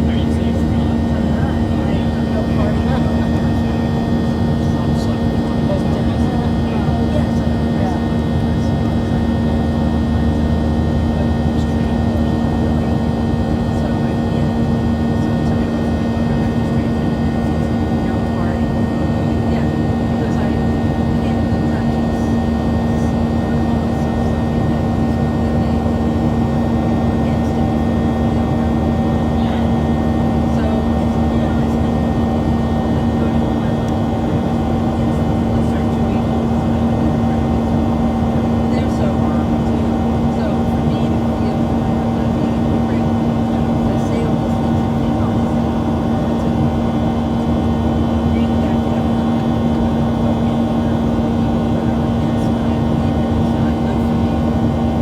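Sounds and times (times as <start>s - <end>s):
airplane cabin drone: 0.0s - 55.0s
jet engines humming: 0.0s - 55.0s.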